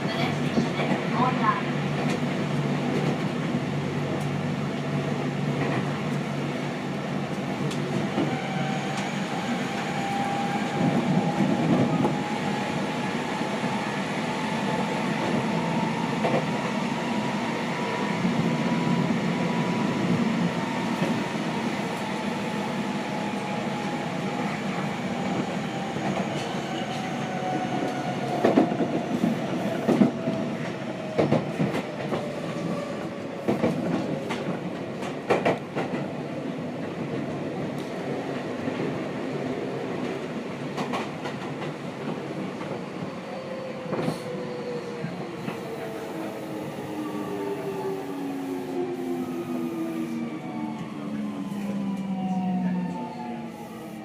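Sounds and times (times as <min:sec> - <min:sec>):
moving train rumble: 0:00.0 - 0:54.0.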